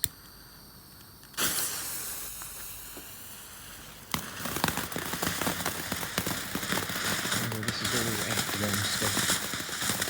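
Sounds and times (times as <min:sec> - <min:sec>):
firework crackling pops: 0:01.1 - 0:10.0
fountain firework hissing: 0:01.3 - 0:10.0.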